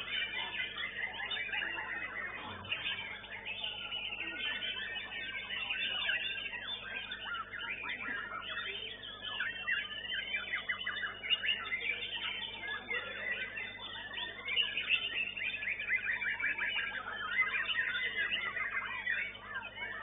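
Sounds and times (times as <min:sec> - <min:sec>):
bird song with whistled trills: 0:00.0 - 0:20.0.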